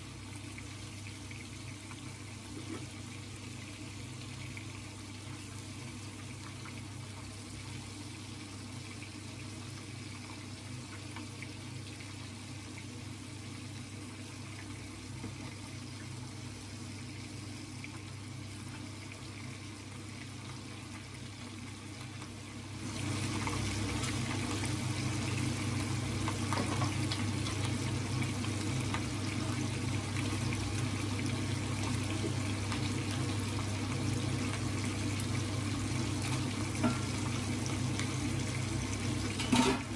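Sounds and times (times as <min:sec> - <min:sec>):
fish sizzling in oil: 0:00.0 - 0:39.9.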